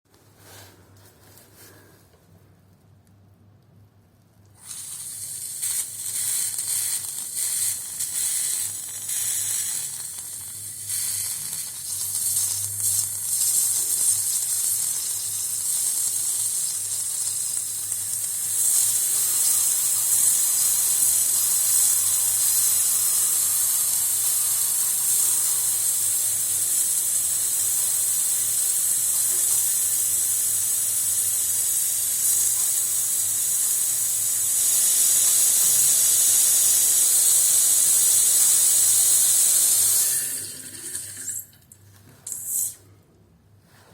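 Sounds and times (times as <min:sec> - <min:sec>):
air hissing from a vent: 0:04.6 - 0:43.0.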